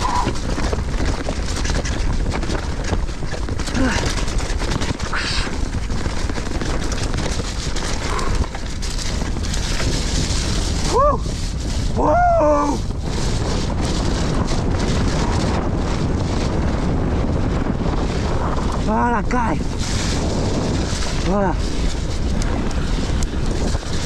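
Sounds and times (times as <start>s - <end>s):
bike rattling on rocks: 0.0s - 12.0s, 12.6s - 24.0s
wind rush on microphone: 0.0s - 24.0s.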